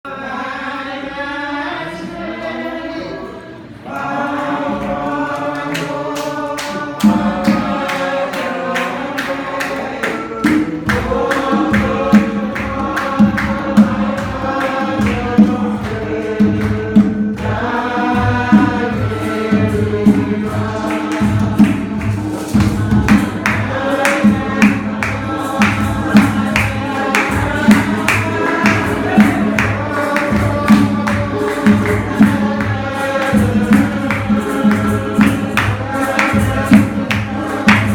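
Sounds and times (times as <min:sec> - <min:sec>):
choir and congregation singing: 0:00.1 - 0:37.9
percussion beat: 0:04.0 - 0:37.9.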